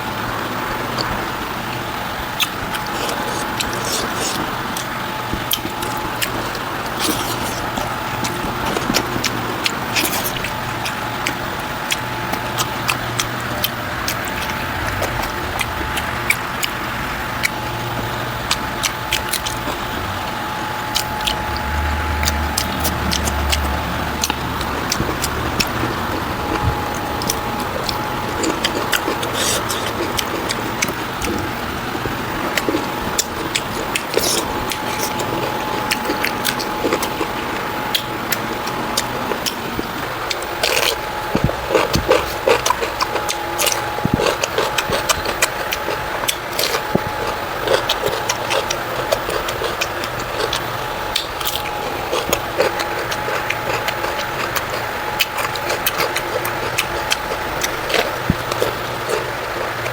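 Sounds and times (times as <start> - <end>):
faint hum: 0.0 - 59.9
chewing and wet mouth clicks: 1.0 - 59.9.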